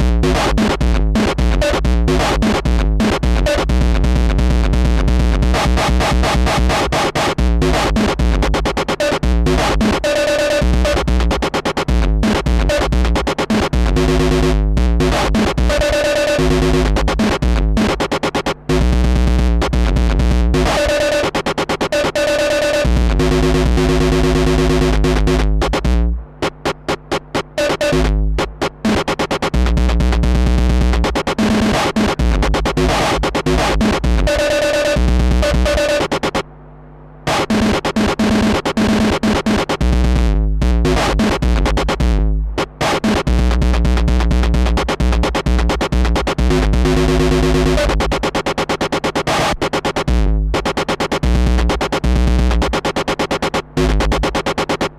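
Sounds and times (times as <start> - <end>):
distorted drum machine beat: 0.0 - 36.4, 37.3 - 54.9.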